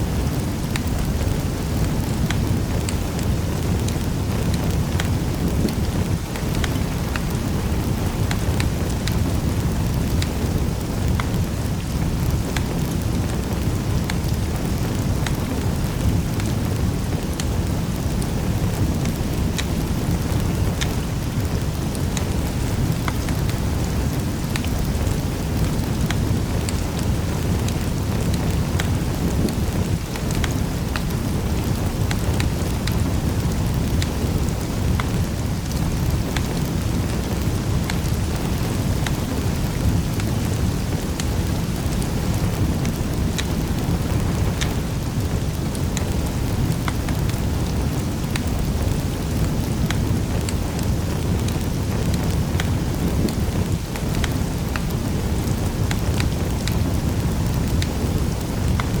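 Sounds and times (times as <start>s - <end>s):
fire crackles: 0.0s - 59.0s
fire flames rumbling: 0.0s - 59.0s.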